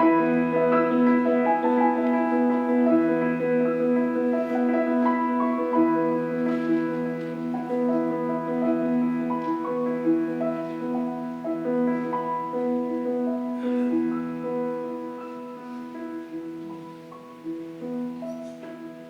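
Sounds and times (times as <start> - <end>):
solo piano piece: 0.0 - 19.0.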